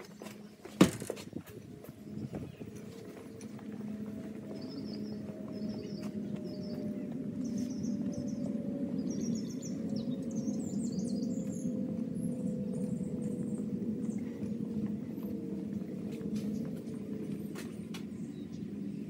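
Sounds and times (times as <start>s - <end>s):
faint hum: 0.0s - 19.0s
low rumble: 1.3s - 19.0s
small birds chirping: 1.4s - 19.0s.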